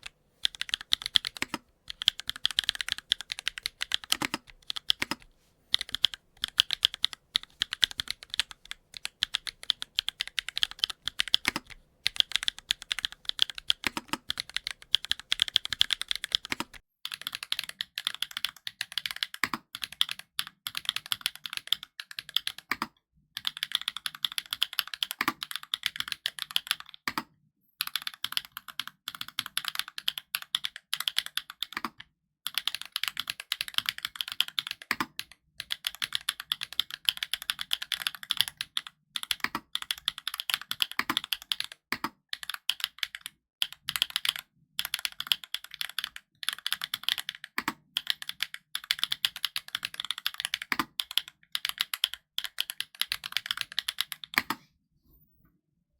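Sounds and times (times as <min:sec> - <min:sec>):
mechanical keyboard typing: 0:00.0 - 0:54.6.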